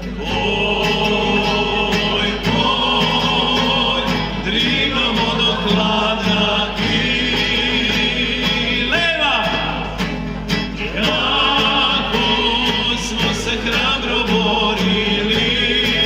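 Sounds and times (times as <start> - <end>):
mixed choir singing: 0.0 - 10.1, 10.7 - 16.0
guitar: 0.0 - 16.0.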